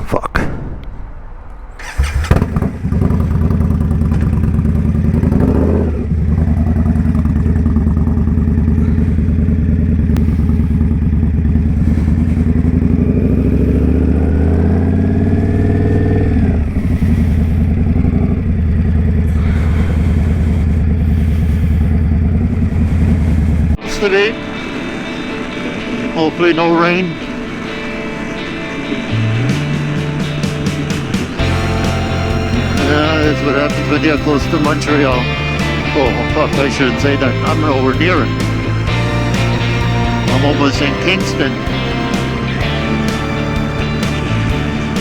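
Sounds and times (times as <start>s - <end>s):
motorcycle engine running: 1.8s - 45.0s.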